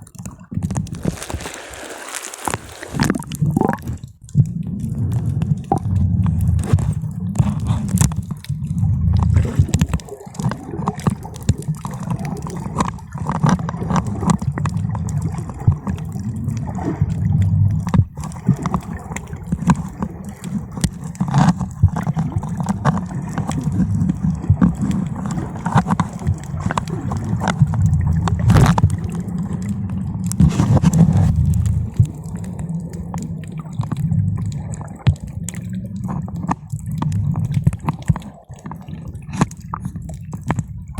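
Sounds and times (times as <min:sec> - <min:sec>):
underwater sloshing and gurgling: 0:00.0 - 0:40.9.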